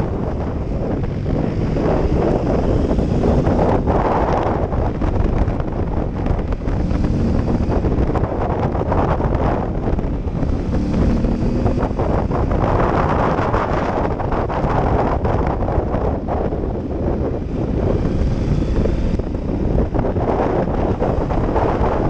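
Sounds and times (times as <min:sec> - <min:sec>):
motorcycle engine running: 0:00.0 - 0:22.0
wind buffeting on camera: 0:00.0 - 0:22.0.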